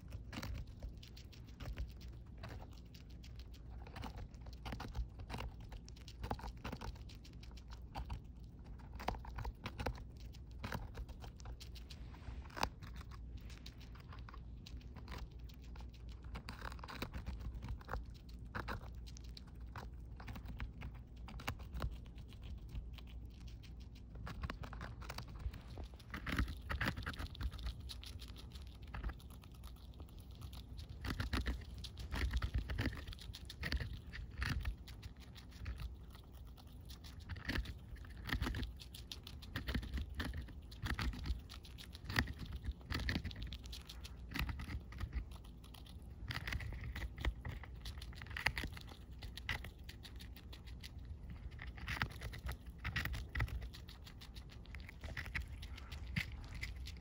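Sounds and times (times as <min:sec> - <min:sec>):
rat gnawing a pepper: 0:00.0 - 0:57.0.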